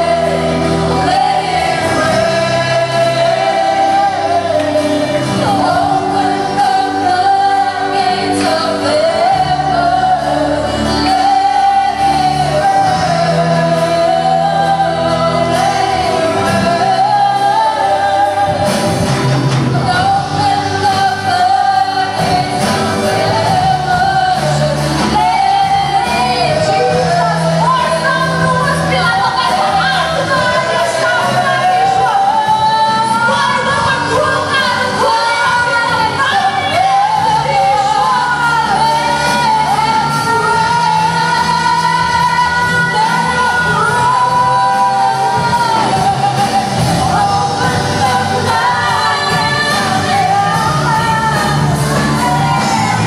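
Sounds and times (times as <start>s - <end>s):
acoustic guitar: 0.0s - 53.0s
drums: 0.0s - 53.0s
voices singing together: 0.0s - 53.0s.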